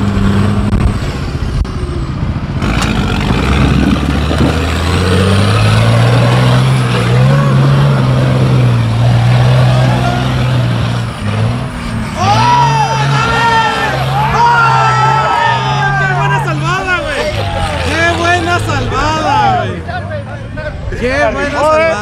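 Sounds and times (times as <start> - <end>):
engine working hard under load: 0.0 - 21.7.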